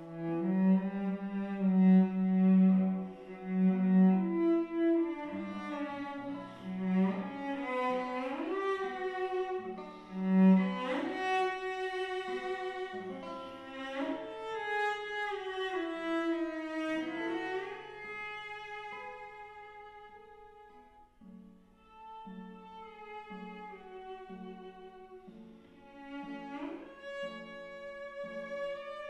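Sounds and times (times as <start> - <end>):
cello playing slow melody: 0.0 - 29.0
plucked guitar accompaniment: 0.0 - 29.0.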